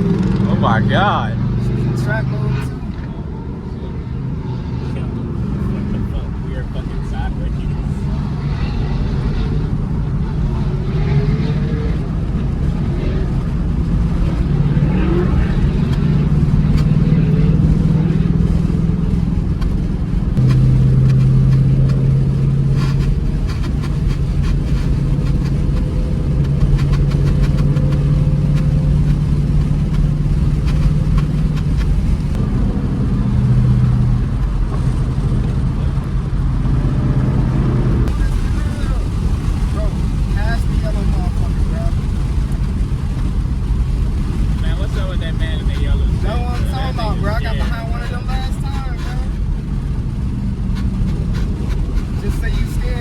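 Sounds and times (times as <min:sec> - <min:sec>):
car engine running hard: 0:00.0 - 0:53.0
road and wind noise: 0:00.0 - 0:53.0.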